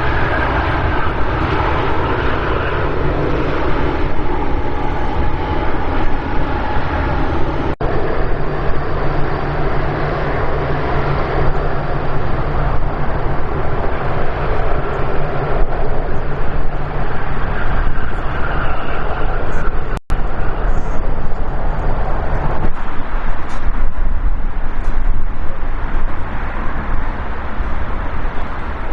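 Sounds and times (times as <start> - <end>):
jet airliner engines roaring: 0.0 - 28.9.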